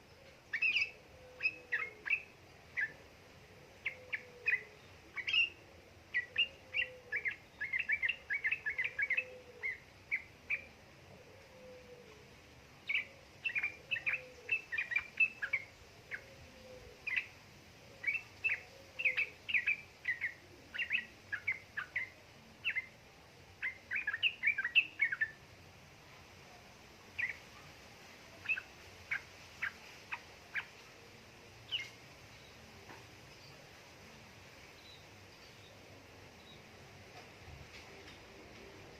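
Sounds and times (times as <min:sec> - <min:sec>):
bird chirping: 0:00.0 - 0:10.8, 0:12.8 - 0:25.4, 0:27.1 - 0:33.7, 0:34.6 - 0:38.9.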